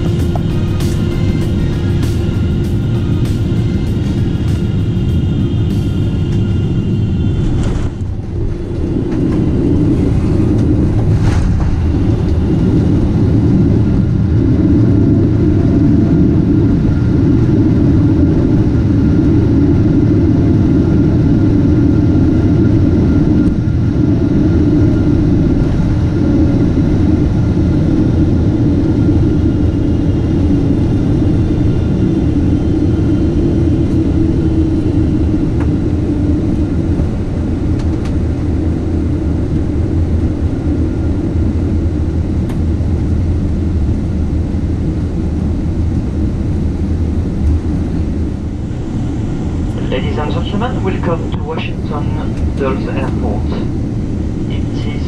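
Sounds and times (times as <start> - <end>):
airliner engines and wheels rumbling: 0.0 - 55.0
faint whine: 0.0 - 55.0.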